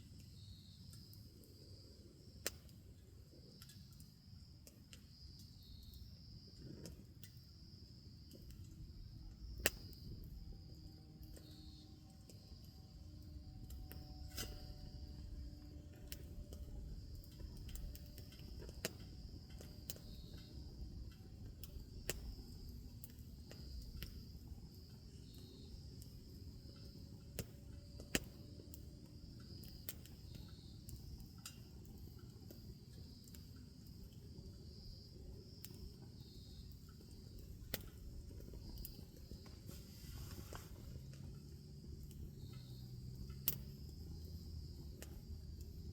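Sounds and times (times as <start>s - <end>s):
insects trilling: 0.0s - 45.9s
wood fire crackling: 0.0s - 45.9s.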